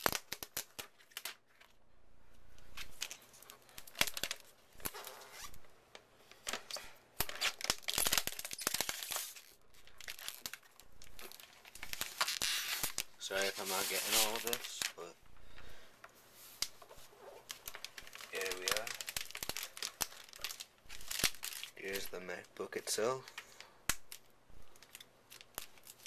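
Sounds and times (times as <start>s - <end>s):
plastic film crinkling as peeled: 0.0s - 1.8s, 2.6s - 5.6s, 6.4s - 15.2s, 16.4s - 26.0s.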